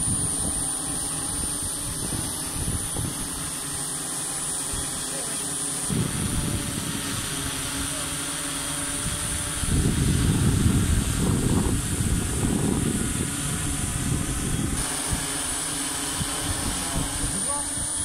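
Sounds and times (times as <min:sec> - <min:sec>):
drone propellers whirring: 0:00.0 - 0:18.0.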